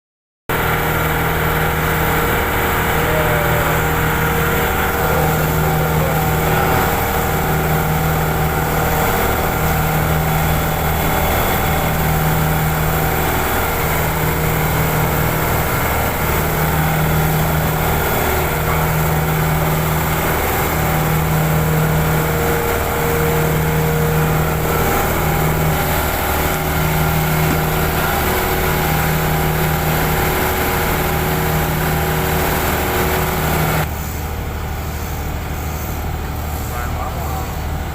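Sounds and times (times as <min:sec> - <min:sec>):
refrigeration compressor humming: 0:00.5 - 0:37.9.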